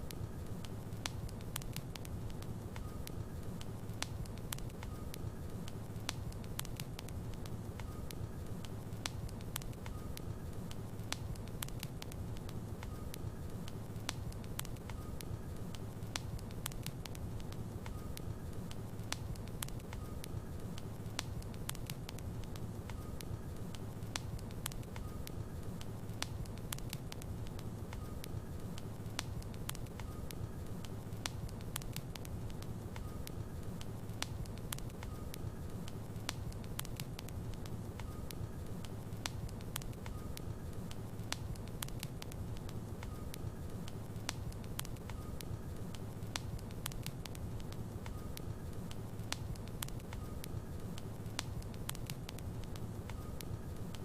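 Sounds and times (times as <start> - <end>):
fire crackling and popping: 0.0 - 54.0
low rumble of flame: 0.0 - 54.0.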